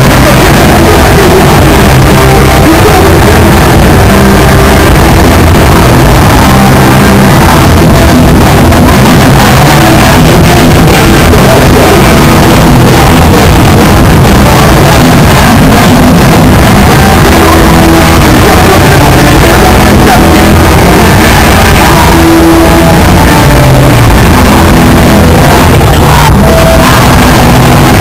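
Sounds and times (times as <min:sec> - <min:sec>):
loud punk band playing live: 0:00.0 - 0:28.0.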